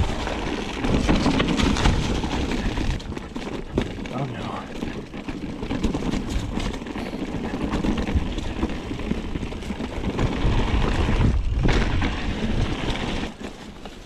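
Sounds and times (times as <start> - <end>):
wind buffeting microphone: 0.0 - 13.5
bike rattling over rough ground: 0.0 - 14.0.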